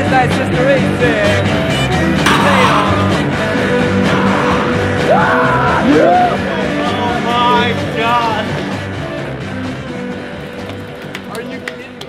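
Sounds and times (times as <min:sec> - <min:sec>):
rock music with lead line: 0:00.0 - 0:11.0.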